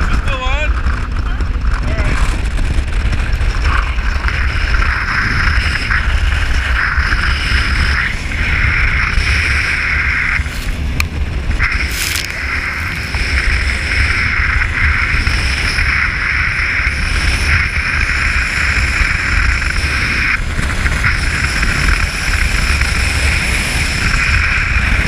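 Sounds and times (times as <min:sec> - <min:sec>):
jet boat engine and water rush: 0:00.0 - 0:25.0
wind rumbling on microphone: 0:00.0 - 0:25.0.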